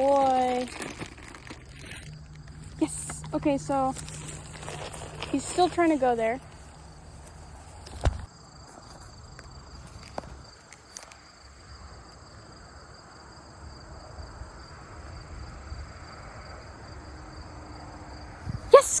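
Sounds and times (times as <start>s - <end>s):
high-pitched insect chorus: 0.0s - 18.3s.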